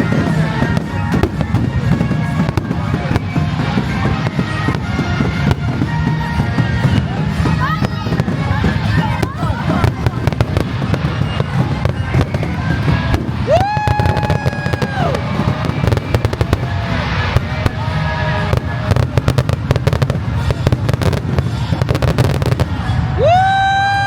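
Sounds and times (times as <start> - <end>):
firework whistling: 0.0 - 24.0
fireworks crackling and popping: 0.0 - 24.0.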